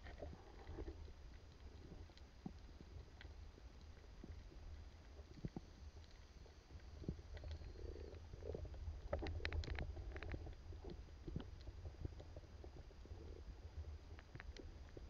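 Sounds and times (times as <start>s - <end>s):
muffled underwater rumble: 0.0s - 15.0s
underwater clicks and ticks: 0.0s - 15.0s.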